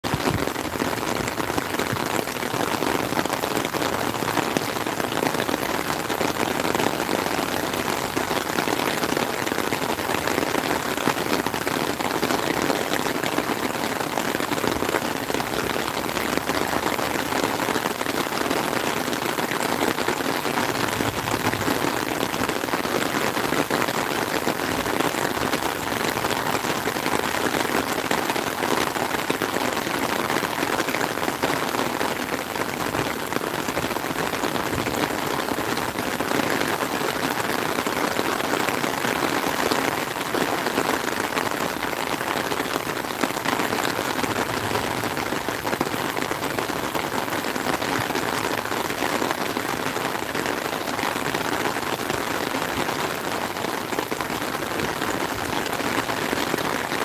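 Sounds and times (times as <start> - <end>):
heavy rain on water and canopy: 0.0 - 57.0.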